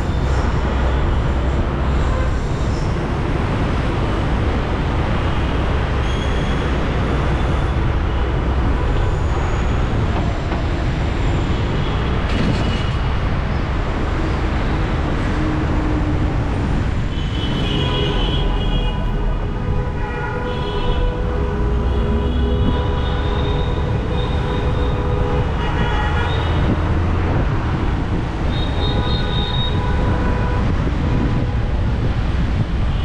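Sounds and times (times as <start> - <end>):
city road traffic rumble: 0.0 - 33.0.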